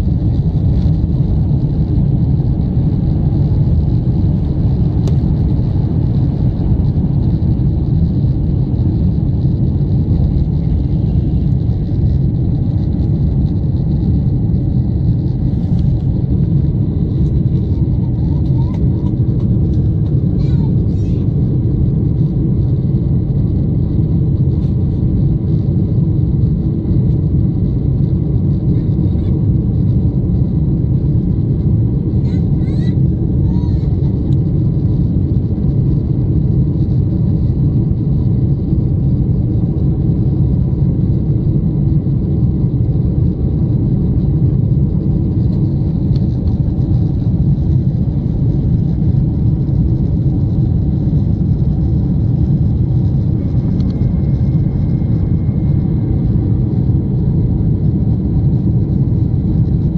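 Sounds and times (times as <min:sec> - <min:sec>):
faint steady whines: 0:00.0 - 0:59.9
jet engines rumbling in cabin: 0:00.0 - 0:59.9.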